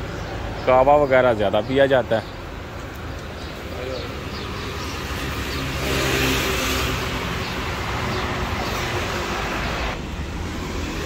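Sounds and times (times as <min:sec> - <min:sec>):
motor vehicle passing: 0:01.2 - 0:11.0.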